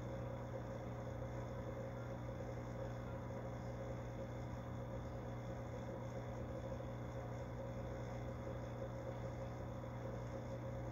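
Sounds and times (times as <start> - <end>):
aquarium equipment humming: 0.0 - 10.9.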